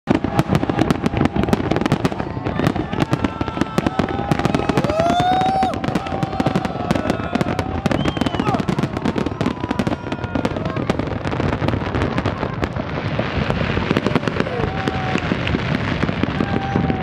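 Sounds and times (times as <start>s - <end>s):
fireworks bursts and crackle: 0.0s - 17.0s.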